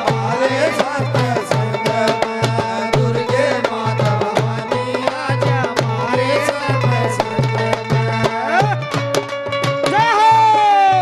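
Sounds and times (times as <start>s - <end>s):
devotional music: 0.0s - 11.0s
dholak drum fast rhythm: 0.0s - 11.0s.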